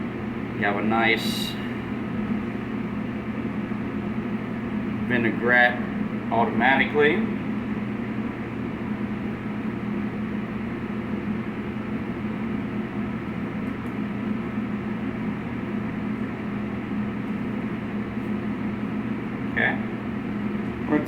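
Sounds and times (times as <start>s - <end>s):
kitchen ventilation hum: 0.0s - 21.0s.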